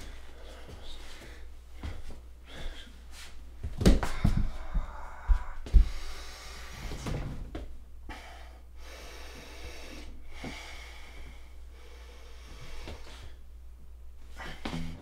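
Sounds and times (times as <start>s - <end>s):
man breathing heavily: 0.0s - 3.4s, 4.0s - 7.2s, 8.0s - 13.5s, 14.2s - 15.0s
faint room hum: 0.0s - 15.0s.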